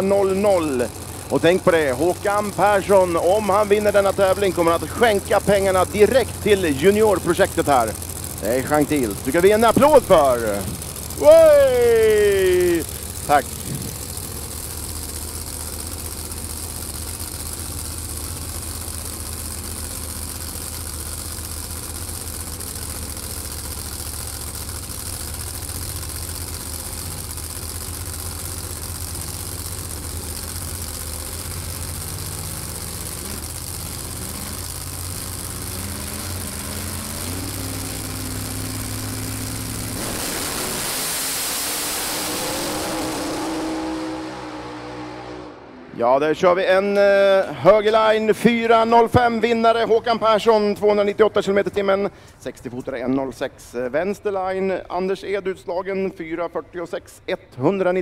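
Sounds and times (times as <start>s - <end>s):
race cars launching: 0.0s - 17.5s, 21.7s - 57.2s
race car engines idling and revving: 0.0s - 58.0s.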